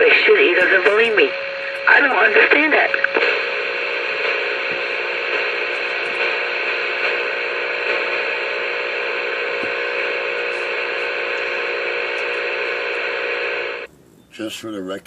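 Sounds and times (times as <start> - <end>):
faint steady hum: 0.0 - 15.0
radio static hiss: 0.0 - 15.0.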